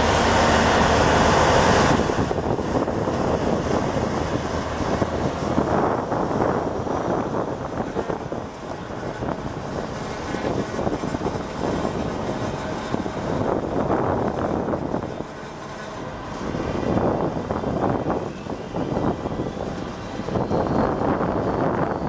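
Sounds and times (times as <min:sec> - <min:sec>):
truck engines running: 0:00.0 - 0:22.0.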